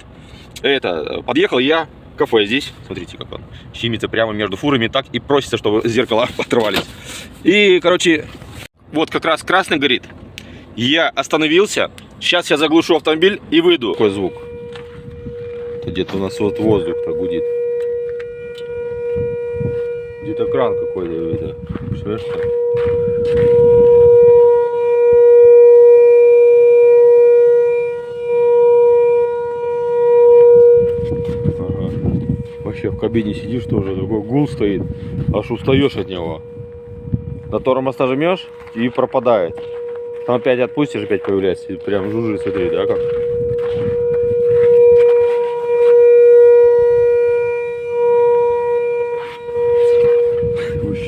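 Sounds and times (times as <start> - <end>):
air system hum: 10.0 - 51.0.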